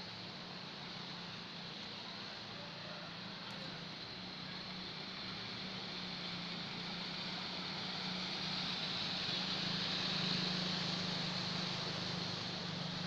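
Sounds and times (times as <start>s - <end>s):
motorbike engines humming: 0.0s - 13.0s.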